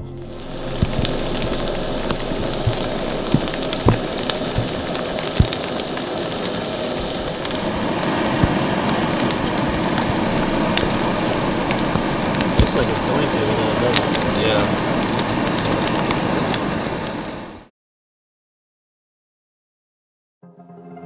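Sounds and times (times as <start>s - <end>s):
campfire pops and crackles: 0.3s - 17.7s
steady rain falling: 0.3s - 17.7s.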